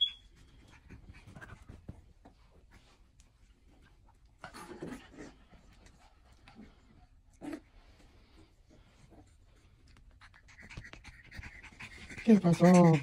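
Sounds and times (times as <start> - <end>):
puppies scuffling and scratching: 0.2 - 13.0.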